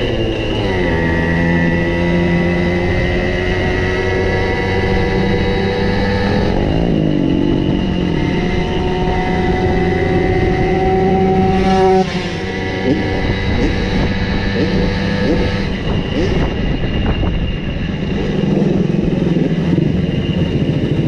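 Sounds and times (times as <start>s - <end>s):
two-stroke moped engines running: 0.0s - 21.0s.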